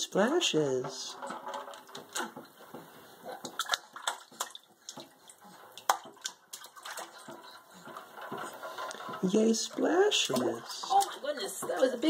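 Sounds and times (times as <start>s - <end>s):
hands splashing bath water: 1.6s - 12.0s.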